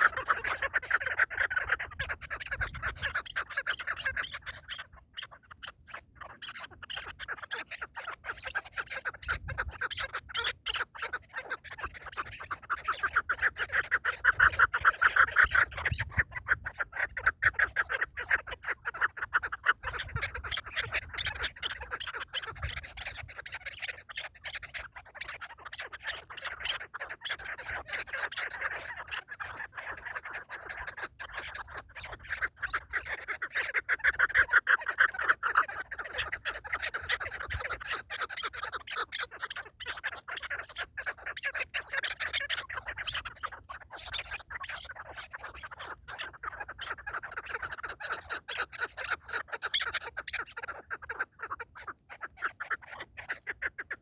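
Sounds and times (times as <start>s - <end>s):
partridge clucking chatter: 0.0s - 54.0s.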